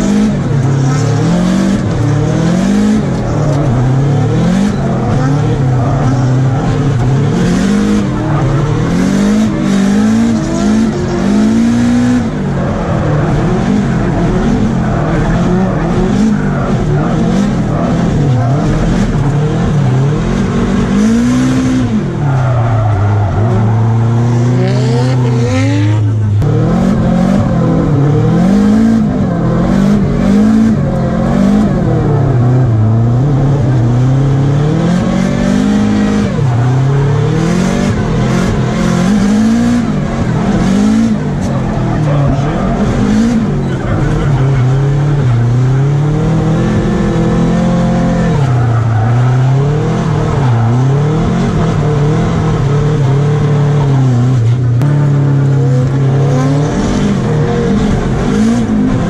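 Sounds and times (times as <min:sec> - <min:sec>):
car engine revving: 0:00.0 - 0:59.0
tyres skidding: 0:00.0 - 0:59.0.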